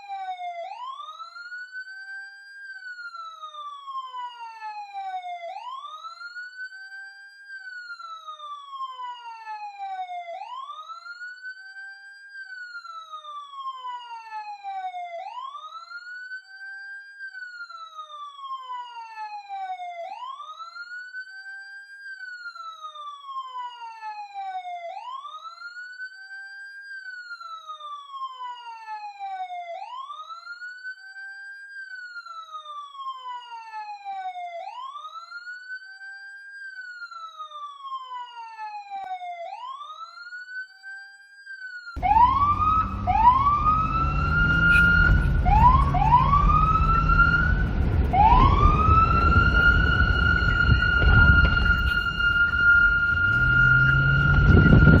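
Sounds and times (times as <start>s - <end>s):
police siren wailing: 0.0s - 55.0s.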